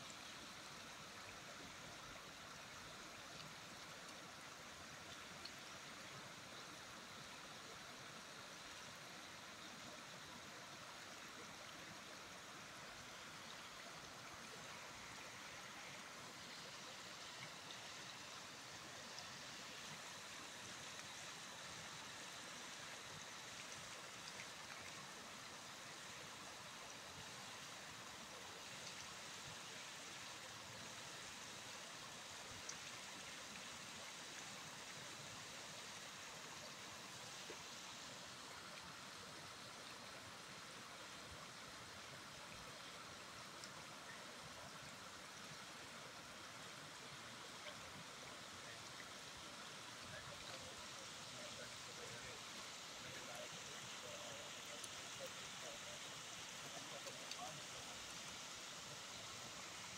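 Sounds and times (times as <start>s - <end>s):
water running over stone steps: 0.0s - 59.9s.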